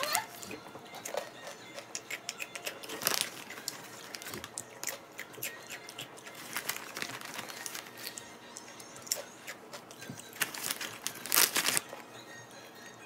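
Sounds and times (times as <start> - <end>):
crackers being chewed: 0.0 - 12.1.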